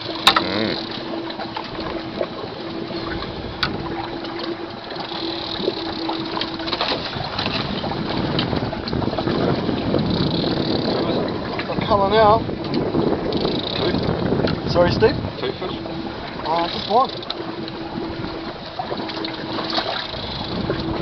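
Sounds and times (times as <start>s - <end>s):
boat motor hum: 0.0s - 21.0s
sea noise: 0.0s - 21.0s
wind: 0.0s - 21.0s.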